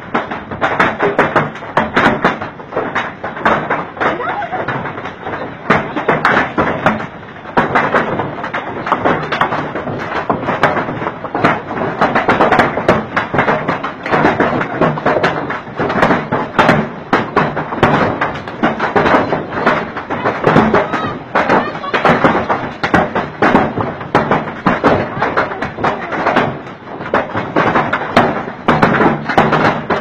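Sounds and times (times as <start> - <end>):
hailstones pelting down: 0.0 - 30.0.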